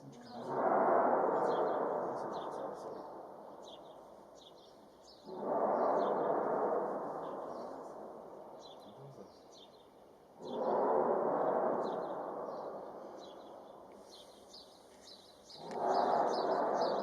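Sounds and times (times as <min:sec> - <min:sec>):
small birds chirping: 0:00.0 - 0:00.7, 0:01.3 - 0:17.0.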